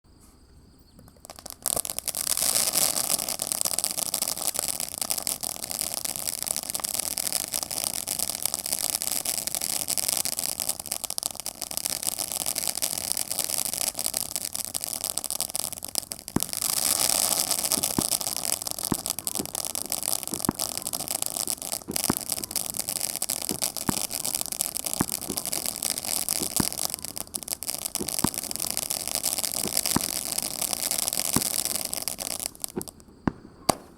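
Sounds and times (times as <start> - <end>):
firework pops and crackles: 0.9 - 33.9
firework shots launching hiss: 1.0 - 33.9.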